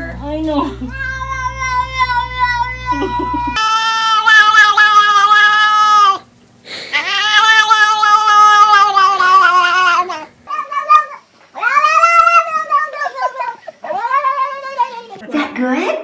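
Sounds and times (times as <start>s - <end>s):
cat yowling: 0.9s - 6.3s, 6.9s - 15.2s.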